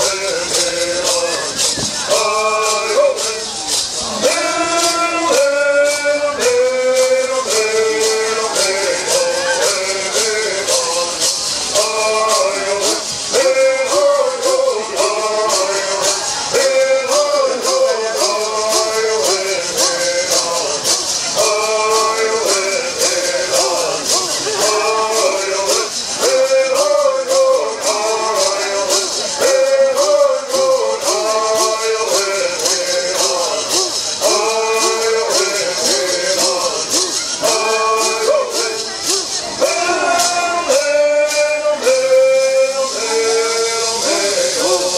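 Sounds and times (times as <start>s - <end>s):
gourd rattles shaking: 0.0s - 44.9s
men singing in unison: 0.0s - 44.9s.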